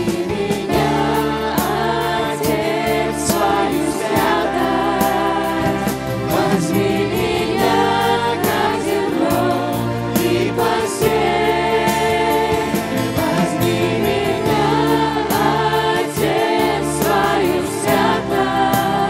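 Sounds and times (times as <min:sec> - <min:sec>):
electric bass guitar: 0:00.0 - 0:19.0
group singing in harmony: 0:00.0 - 0:19.0
keyboard: 0:00.0 - 0:19.0.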